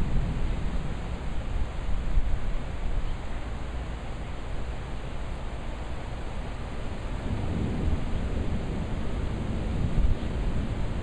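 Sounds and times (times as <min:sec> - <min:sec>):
rain and wind rushing: 0:00.0 - 0:11.0.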